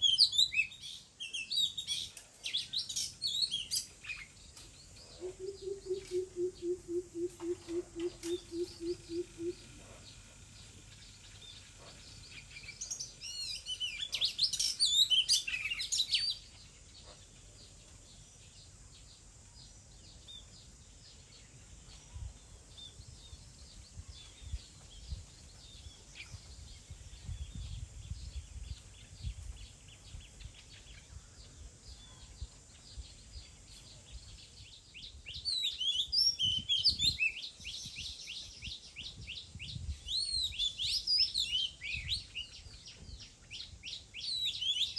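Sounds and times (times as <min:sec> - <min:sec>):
soft bird chirps: 0:00.0 - 0:44.9.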